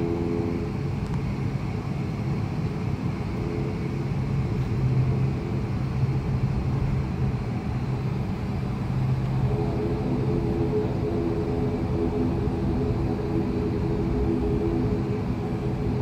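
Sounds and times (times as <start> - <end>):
turboprop engine drone: 0.0 - 16.0.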